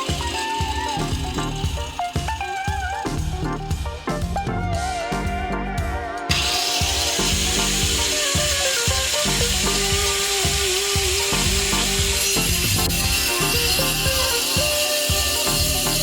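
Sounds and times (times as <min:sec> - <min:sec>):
angle grinder running: 0:00.0 - 0:03.9, 0:06.3 - 0:16.0
background music with beat: 0:00.0 - 0:16.0.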